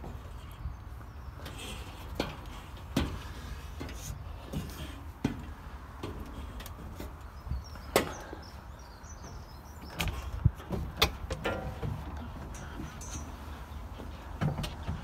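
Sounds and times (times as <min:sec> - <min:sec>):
footsteps on steel grating: 0:00.0 - 0:15.0.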